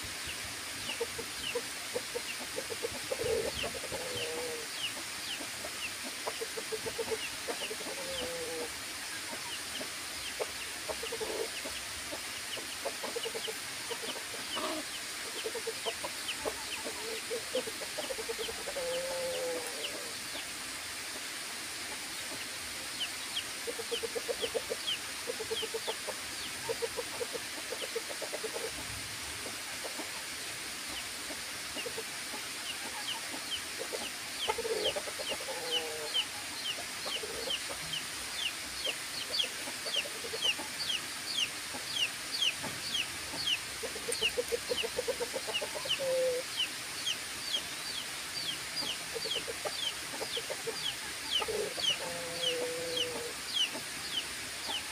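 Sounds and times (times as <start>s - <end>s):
chickens clucking: 0.0s - 54.9s
steady high hiss: 0.0s - 54.9s.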